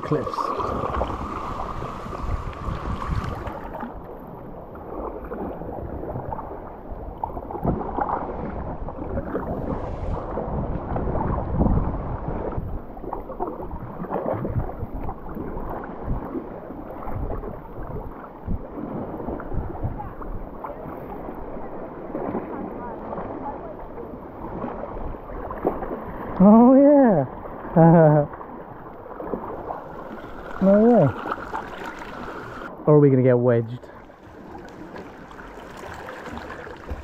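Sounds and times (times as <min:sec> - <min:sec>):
kayak paddles splashing in water: 0:00.0 - 0:32.8, 0:33.8 - 0:37.0.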